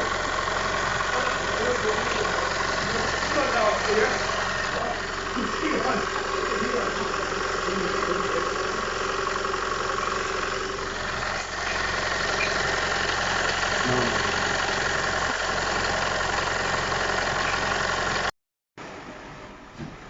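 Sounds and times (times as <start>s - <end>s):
car engine idling: 0.0s - 18.3s.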